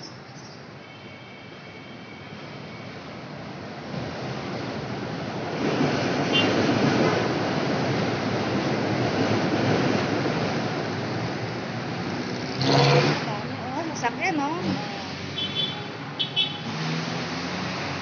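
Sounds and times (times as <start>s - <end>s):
rushing light rail train: 0.0s - 18.0s.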